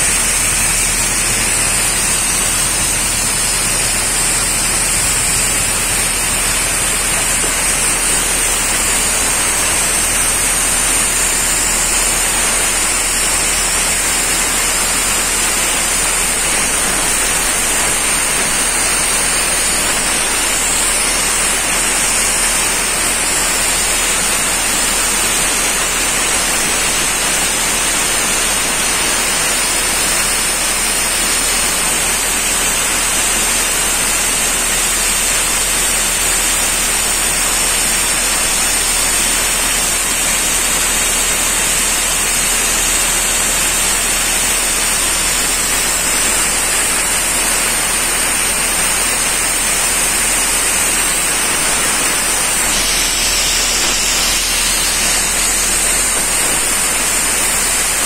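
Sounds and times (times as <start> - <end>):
air compressor paint sprayer hissing: 0.0 - 58.0.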